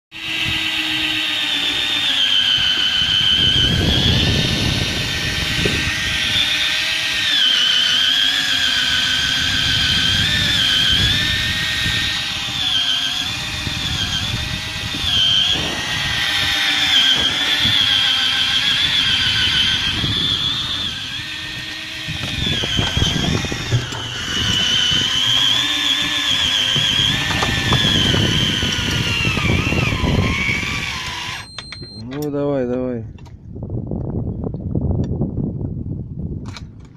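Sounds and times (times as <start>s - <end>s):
fishing reel motor whining: 0.2s - 32.0s.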